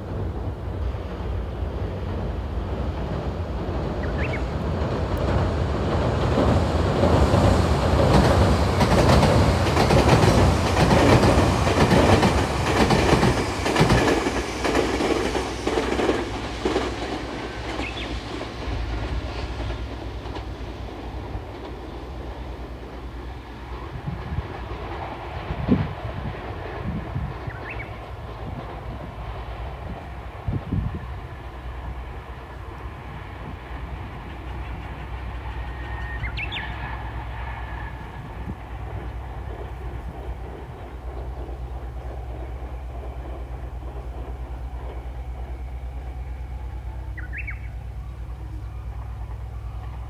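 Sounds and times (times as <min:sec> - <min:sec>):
train passing at speed: 0:00.0 - 0:50.0
wheels clicking over rail joints: 0:02.0 - 0:46.1.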